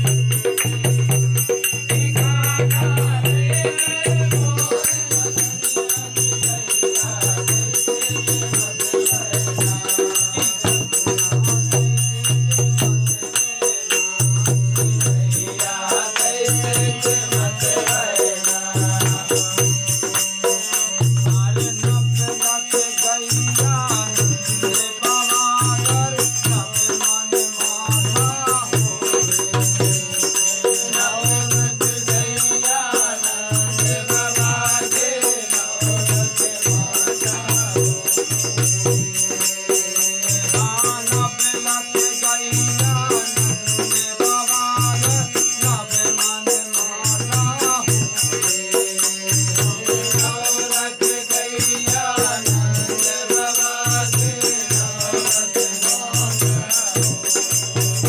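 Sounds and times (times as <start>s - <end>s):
jingling hand percussion: 0.0s - 58.0s
steady drum beat: 0.0s - 58.0s
voices singing: 0.0s - 58.0s.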